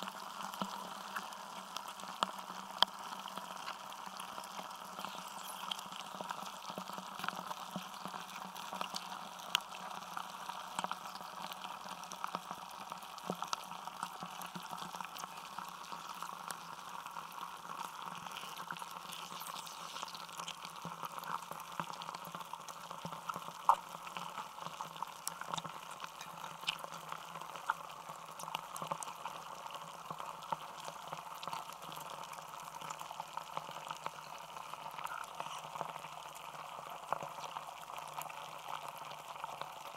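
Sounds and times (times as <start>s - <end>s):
melting ice crackling: 0.0s - 39.9s.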